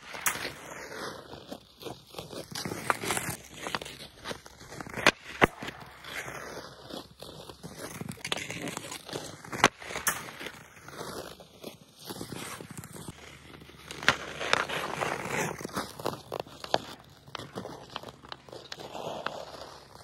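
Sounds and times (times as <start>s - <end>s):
hockey stick striking puck: 0.0s - 20.0s
ice skates scraping ice: 0.0s - 20.0s.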